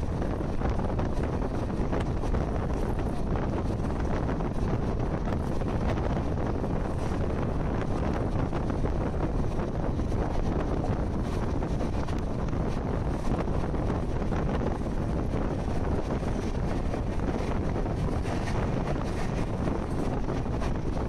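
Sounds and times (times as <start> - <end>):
moving train running: 0.0 - 21.0
wind buffeting microphone: 0.0 - 21.0.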